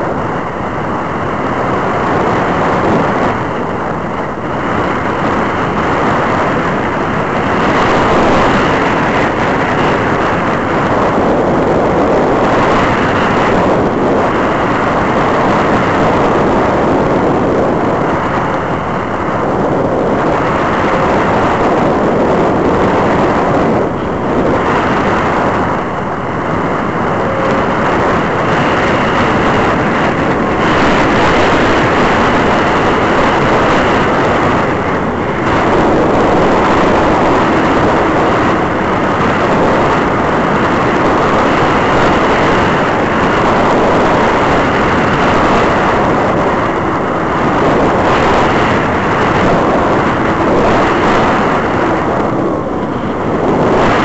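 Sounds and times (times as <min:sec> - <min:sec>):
faint high whine: 0:00.0 - 0:54.0
wind rush over microphone: 0:00.0 - 0:54.0.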